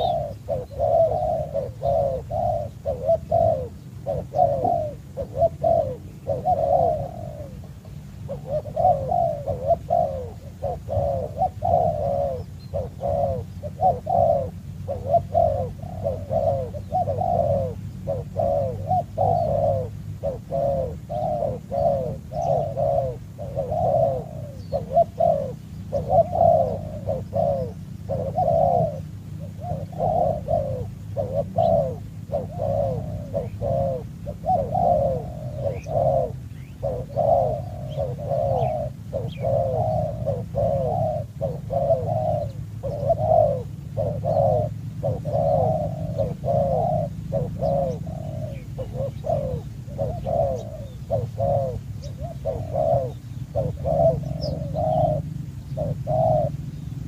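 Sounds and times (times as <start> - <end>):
dove cooing: 0.0 - 57.0
steady low hum: 0.0 - 57.0.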